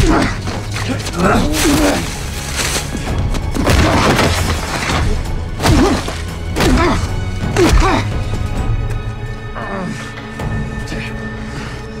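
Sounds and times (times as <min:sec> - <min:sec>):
music with low drone: 0:00.0 - 0:12.0.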